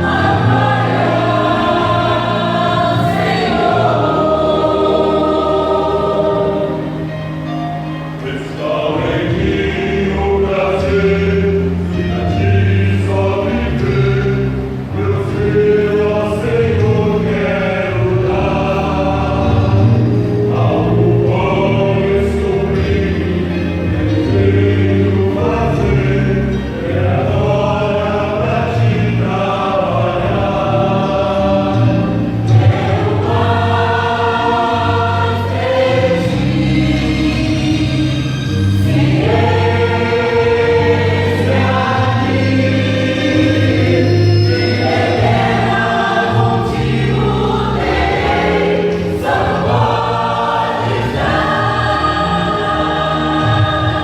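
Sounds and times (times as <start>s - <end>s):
choir singing a hymn: 0.0s - 54.0s
instrumental accompaniment: 0.0s - 54.0s.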